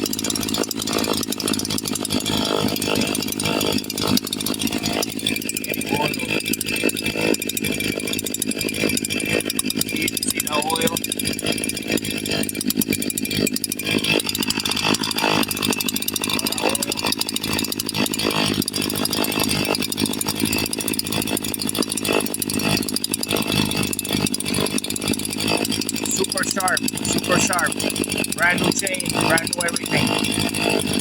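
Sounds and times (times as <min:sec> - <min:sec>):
chainsaw running: 0:00.0 - 0:31.0.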